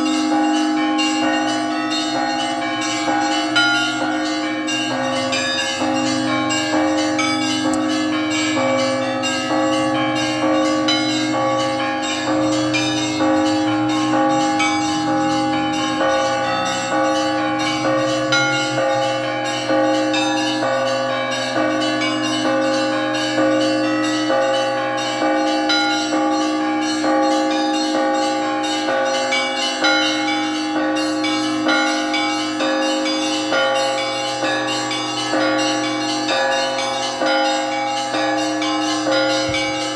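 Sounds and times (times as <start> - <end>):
church bells ringing: 0.0 - 39.9
deep bells ringing: 0.0 - 39.9.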